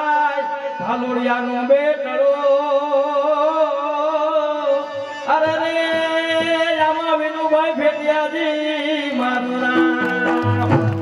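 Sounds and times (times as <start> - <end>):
harmonium: 0.0 - 11.0.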